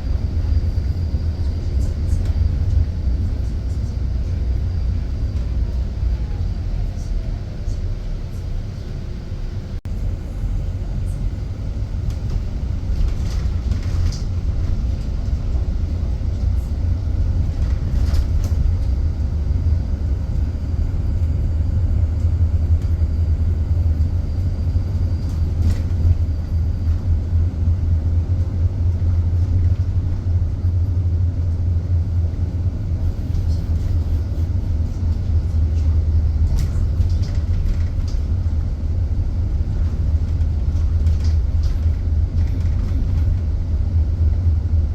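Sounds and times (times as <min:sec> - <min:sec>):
low road rumble inside bus: 0:00.0 - 0:44.9.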